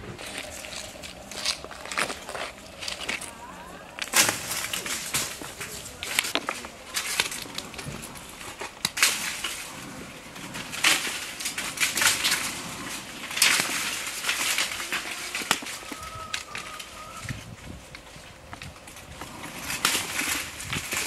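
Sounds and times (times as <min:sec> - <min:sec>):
walnuts and dry leaves crunching: 0:00.0 - 0:21.0.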